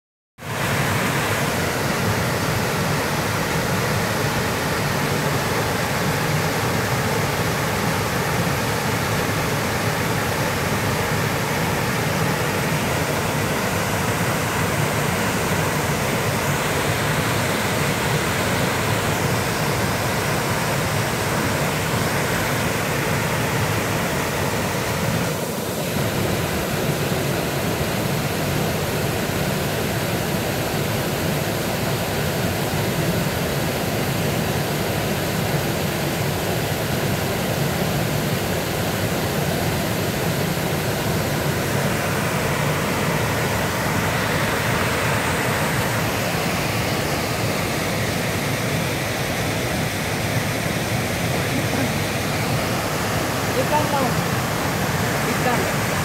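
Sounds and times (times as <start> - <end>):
waterfall rushing: 0.4 - 56.0.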